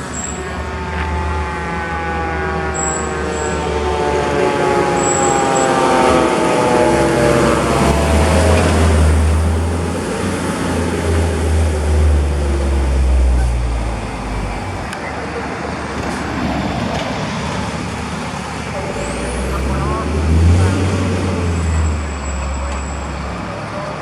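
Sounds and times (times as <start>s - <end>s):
fire truck diesel engine passing: 0.0s - 24.0s.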